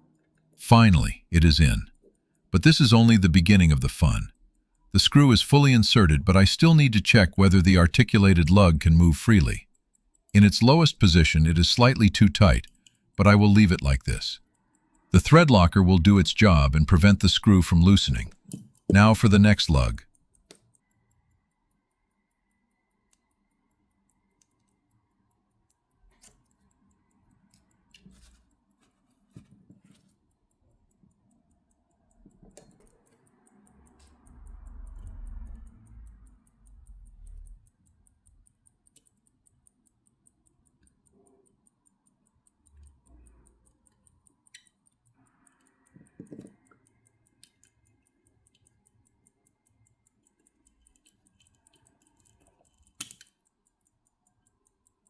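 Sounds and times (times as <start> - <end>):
pocket watch ticking: 0.1 - 55.0.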